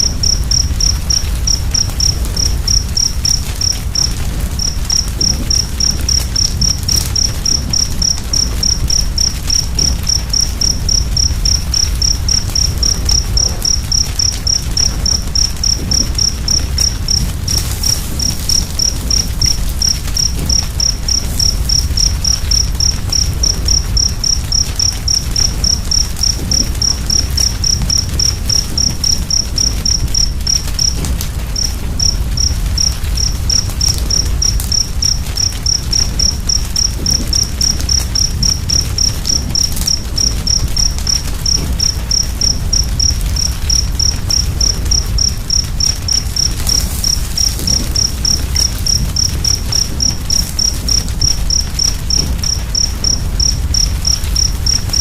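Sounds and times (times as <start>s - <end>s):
cricket chirping: 0.0s - 55.0s
fire rumbling and crackling: 0.0s - 55.0s.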